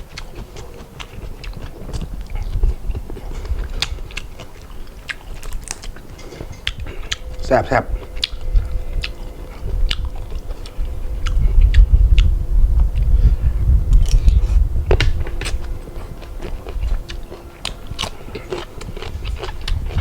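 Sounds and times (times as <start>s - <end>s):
person chewing food: 0.0s - 7.4s, 8.0s - 20.0s.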